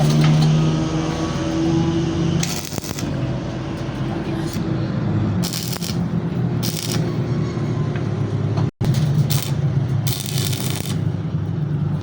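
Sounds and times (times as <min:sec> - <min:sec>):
low machine drone: 0:00.0 - 0:12.0.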